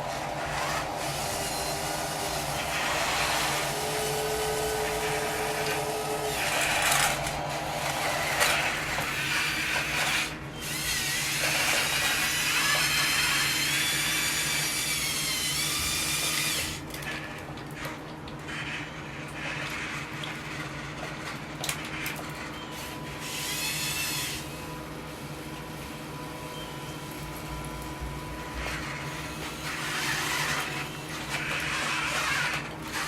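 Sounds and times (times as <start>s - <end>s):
electric motor whine: 0.0s - 17.3s, 21.9s - 25.0s, 26.1s - 33.0s.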